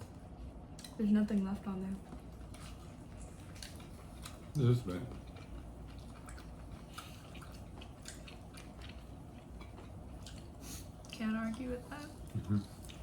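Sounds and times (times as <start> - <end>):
person chewing food: 0.0 - 1.0, 2.0 - 13.0.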